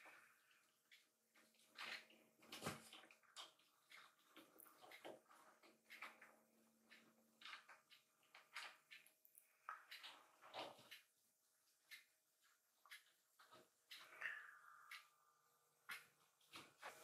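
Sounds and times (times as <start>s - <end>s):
kittens licking and grooming: 0.0s - 17.0s.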